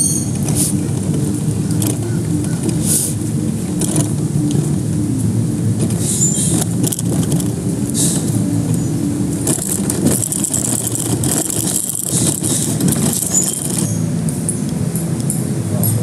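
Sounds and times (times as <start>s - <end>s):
low mechanical hum: 0.0s - 16.0s
rush of outdoor noise: 0.0s - 16.0s.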